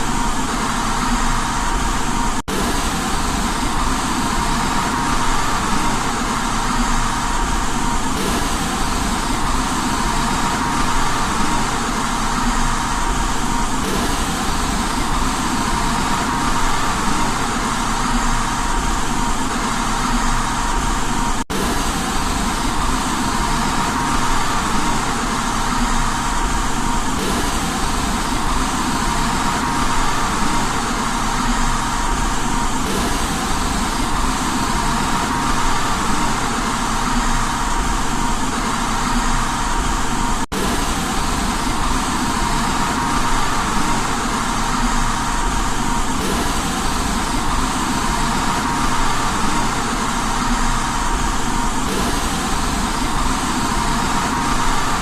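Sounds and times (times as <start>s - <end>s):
faint constant tone: 0.0s - 55.0s
white noise hiss: 0.0s - 55.0s.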